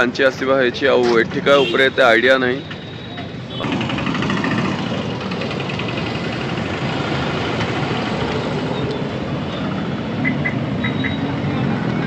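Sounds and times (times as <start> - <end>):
roadside traffic: 0.0 - 12.0.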